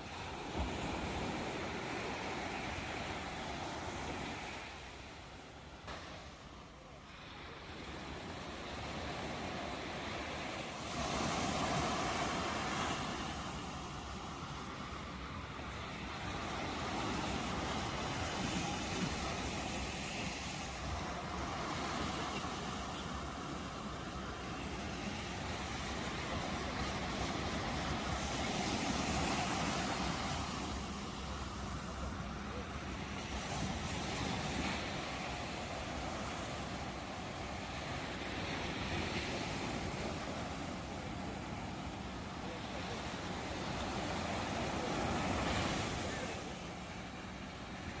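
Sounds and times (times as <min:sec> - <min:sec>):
ocean surf breaking: 0:00.0 - 0:48.0.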